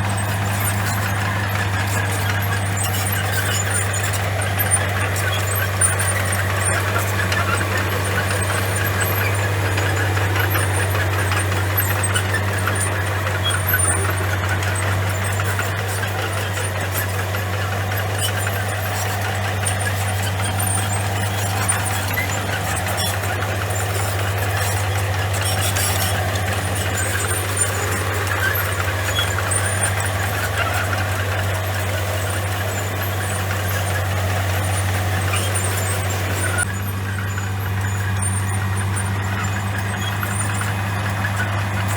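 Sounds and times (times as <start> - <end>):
bulldozer diesel engine drone: 0.0 - 41.9
grinding clattering noise: 0.0 - 41.9.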